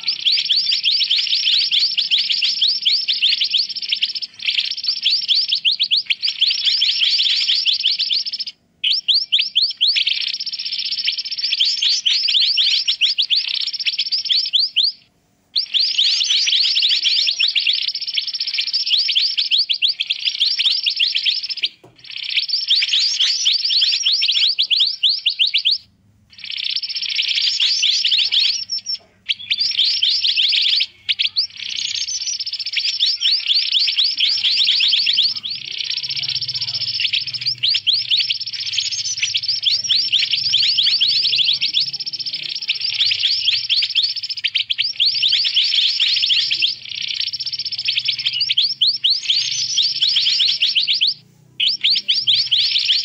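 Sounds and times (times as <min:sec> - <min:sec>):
birds chattering: 0:00.0 - 0:53.0.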